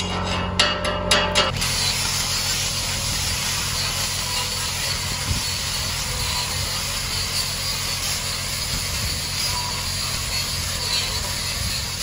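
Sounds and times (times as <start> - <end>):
welding machine engine hum: 0.0 - 12.0
welding arc crackling and sizzling: 1.4 - 12.0.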